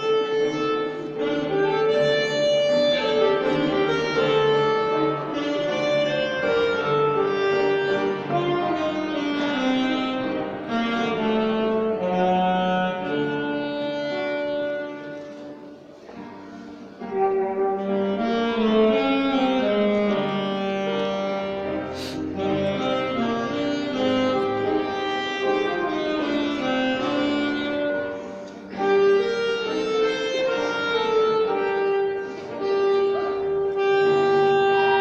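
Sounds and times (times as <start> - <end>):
alto saxophone melody: 0.0 - 35.0.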